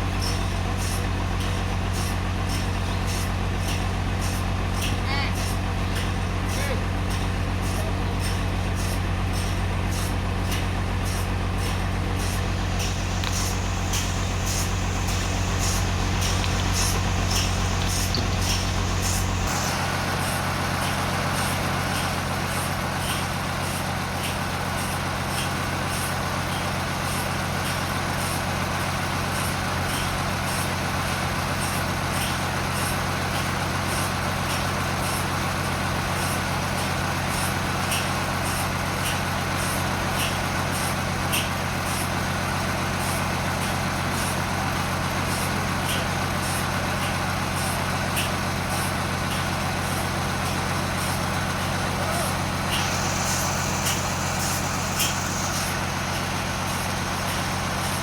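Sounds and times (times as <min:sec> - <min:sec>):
sawmill machinery hum: 0:00.0 - 0:58.0.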